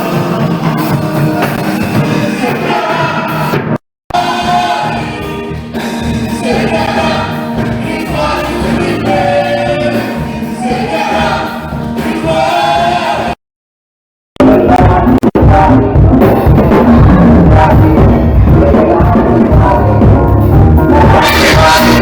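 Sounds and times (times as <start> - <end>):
church choir singing gospel: 0.0 - 13.4, 17.3 - 22.0.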